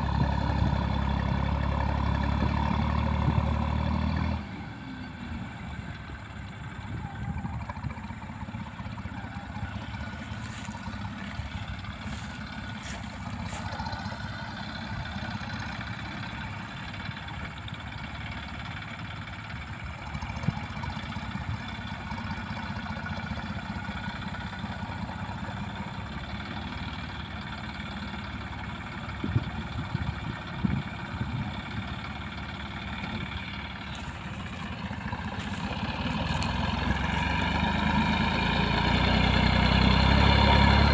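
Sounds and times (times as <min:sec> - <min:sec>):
tractor engine under load: 0:00.0 - 0:40.9.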